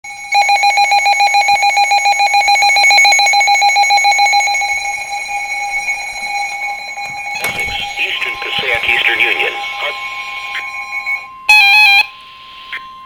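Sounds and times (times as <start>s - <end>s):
rapidly pulsing electronic alarm tone: 0.1s - 13.0s.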